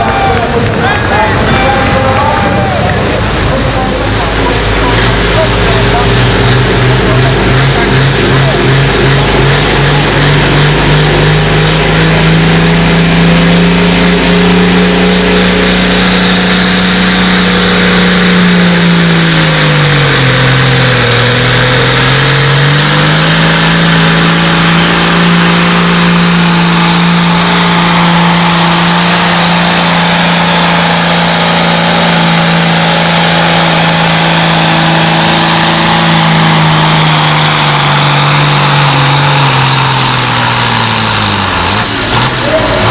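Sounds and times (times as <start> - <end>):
tractor engine at high revs: 0.0 - 42.9.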